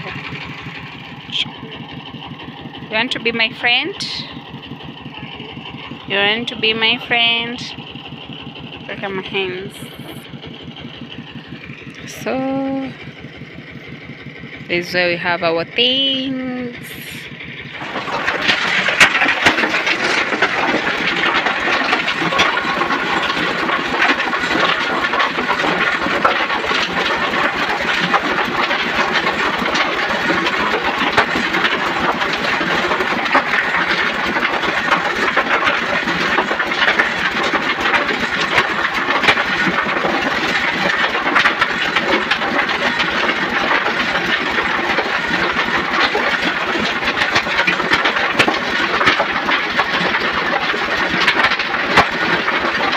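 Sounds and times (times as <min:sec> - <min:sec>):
machine running with rattling din: 0:00.0 - 0:52.9.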